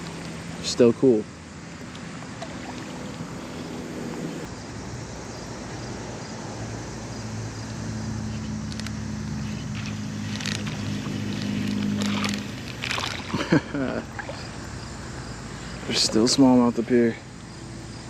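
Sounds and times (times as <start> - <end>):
low engine hum: 0.0 - 18.0
passing vehicles: 0.0 - 18.0.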